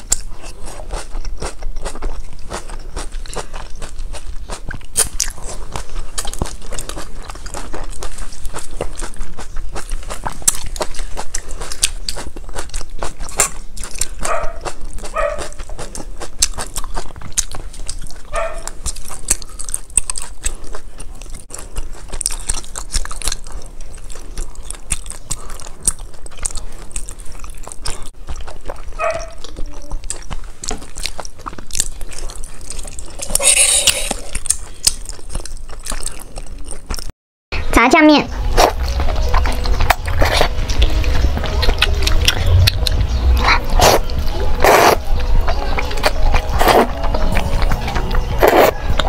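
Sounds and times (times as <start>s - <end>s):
person chewing crunchy food: 0.0s - 37.1s, 38.3s - 49.0s.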